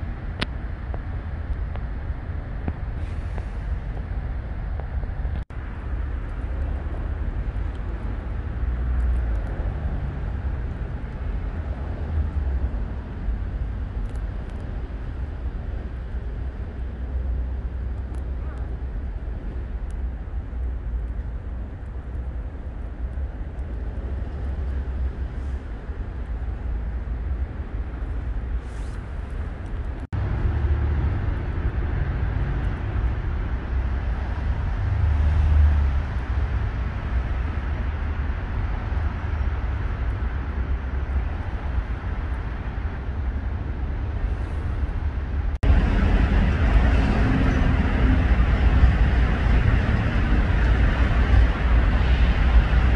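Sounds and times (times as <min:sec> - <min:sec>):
low outdoor background rumble: 0:00.0 - 0:52.9.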